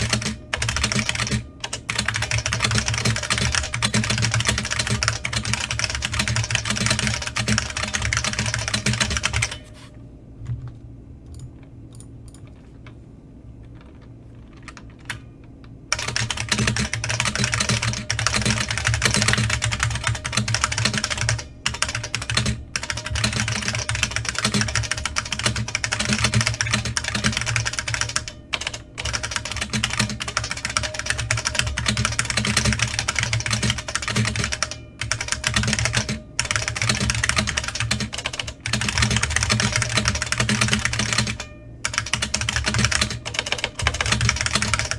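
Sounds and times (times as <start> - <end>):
fast keyboard typing: 0.0 - 13.0, 13.6 - 44.9.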